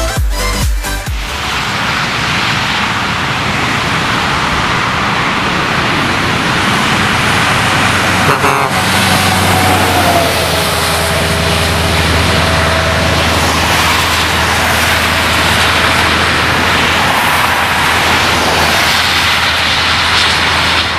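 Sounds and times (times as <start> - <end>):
truck engine drone: 0.0 - 20.9
tyres hissing on wet road: 0.9 - 20.9.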